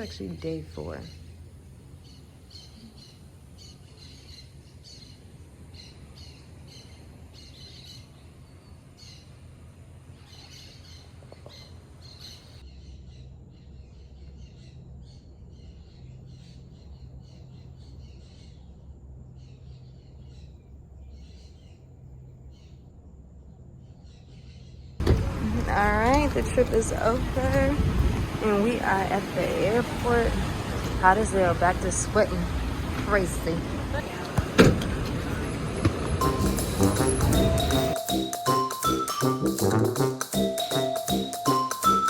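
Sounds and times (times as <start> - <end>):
steady low hum: 0.0 - 38.0
birds chirping: 0.0 - 42.0.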